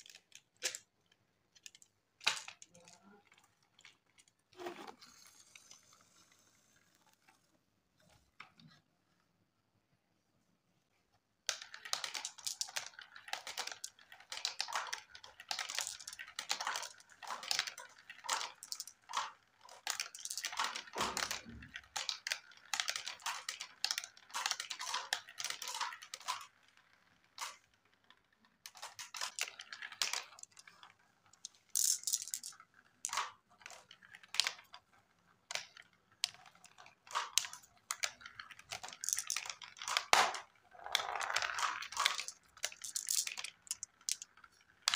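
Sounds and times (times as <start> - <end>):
marbles clattering down plastic track: 1.5 - 6.4, 11.5 - 44.9.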